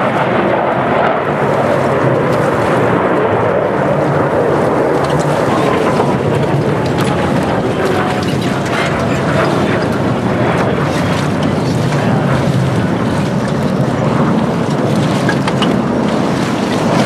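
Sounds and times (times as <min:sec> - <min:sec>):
jet engines roaring: 0:00.0 - 0:17.0
wind on microphone: 0:00.0 - 0:17.0.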